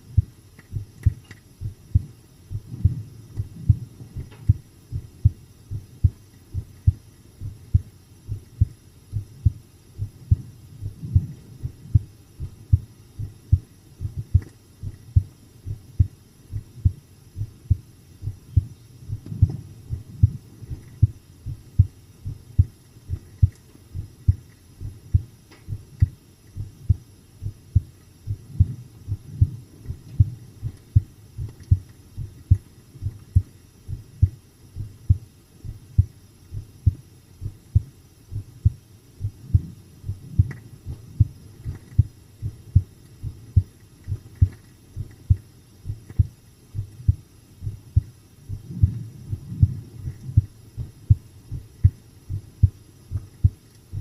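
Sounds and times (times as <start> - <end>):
heartbeat lub-dub: 0.0 - 54.0.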